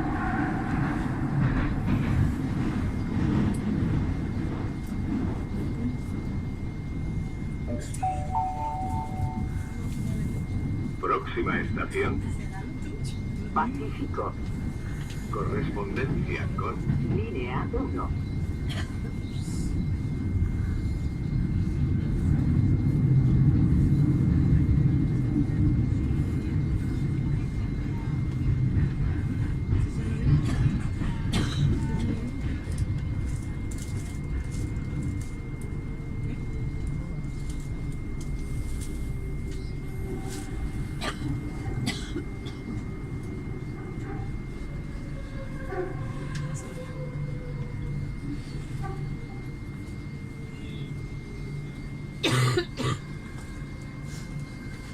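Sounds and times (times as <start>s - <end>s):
train wheels rumbling in tunnel: 0.0s - 54.9s.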